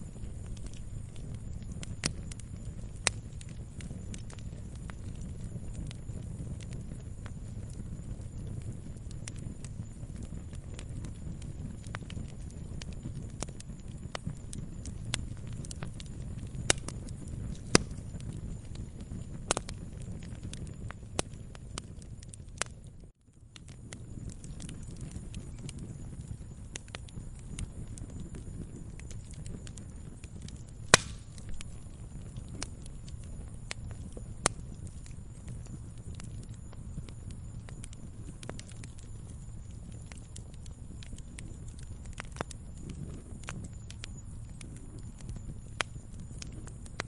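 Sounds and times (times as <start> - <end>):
campfire pops and snaps: 0.0 - 47.0
low rumble of flames: 0.0 - 47.0.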